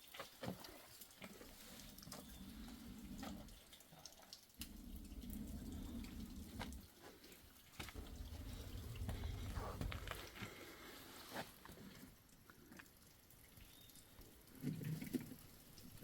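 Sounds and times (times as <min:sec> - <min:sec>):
water dripping: 0:00.0 - 0:16.0
water running: 0:00.0 - 0:16.0.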